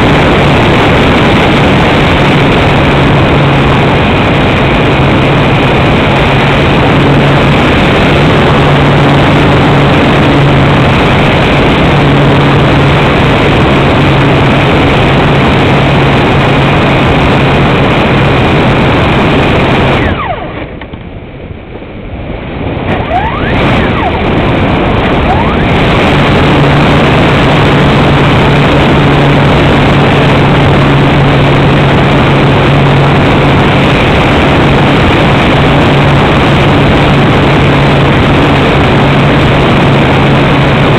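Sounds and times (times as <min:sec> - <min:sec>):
glider motor and propeller drone: 0:00.0 - 0:40.9
rushing air: 0:00.0 - 0:40.9.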